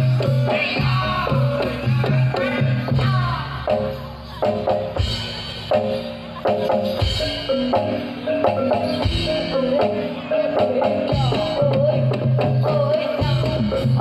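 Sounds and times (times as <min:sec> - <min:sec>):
drum strokes: 0:00.0 - 0:14.0
metallophones ringing short notes: 0:00.0 - 0:14.0.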